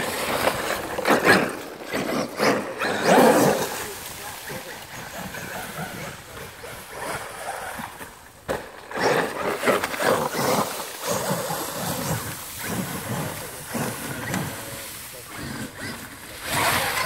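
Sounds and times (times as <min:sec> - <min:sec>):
tyres churning leaves: 0:00.0 - 0:17.0
electric toy truck motor revving: 0:00.4 - 0:03.8, 0:05.0 - 0:08.1, 0:08.9 - 0:17.0.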